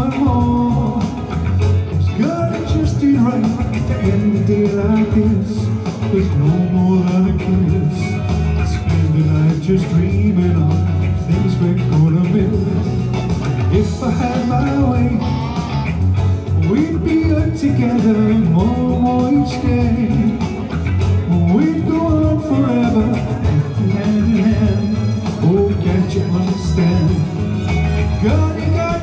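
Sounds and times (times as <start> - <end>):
bass line: 0.0 - 29.0
electric guitar: 0.0 - 29.0
man singing: 0.0 - 29.0.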